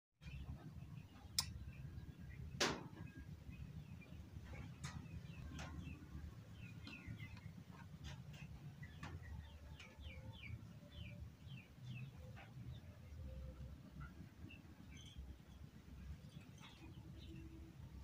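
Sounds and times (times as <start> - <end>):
small birds chirping: 0.2 - 18.0.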